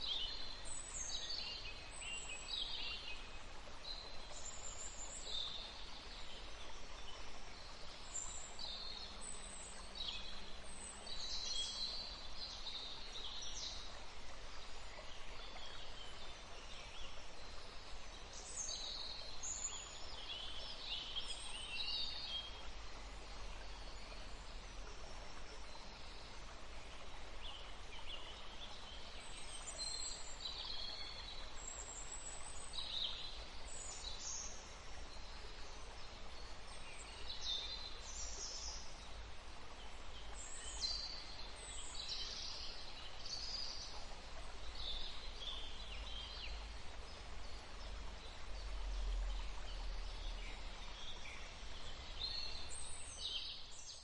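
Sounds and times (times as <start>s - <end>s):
faint breeze: 0.0s - 54.0s.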